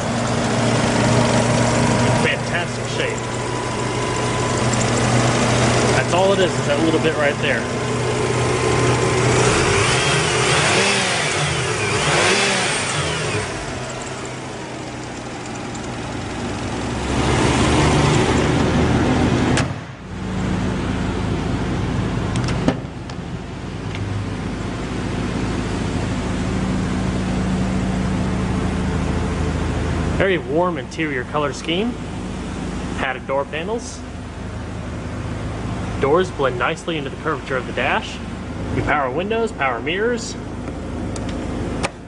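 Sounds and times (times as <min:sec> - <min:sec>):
rotary engine revving and idling: 0:00.0 - 0:42.0.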